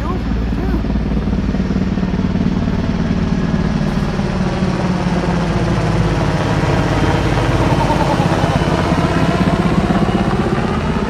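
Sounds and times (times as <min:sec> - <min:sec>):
helicopter rotor chop: 0:00.0 - 0:11.0
helicopter turbine engines: 0:00.0 - 0:11.0.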